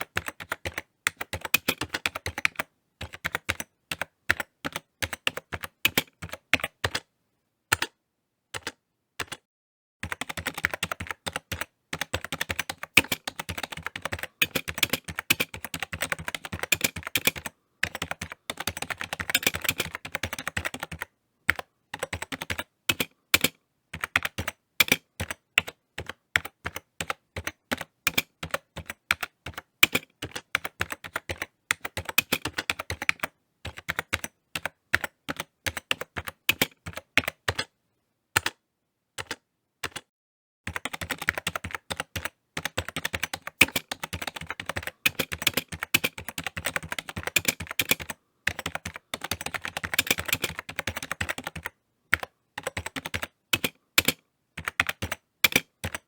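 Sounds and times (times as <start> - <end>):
typing on keyboard: 0.0 - 7.1, 7.7 - 37.7, 38.4 - 38.6, 39.2 - 40.1, 40.7 - 56.0.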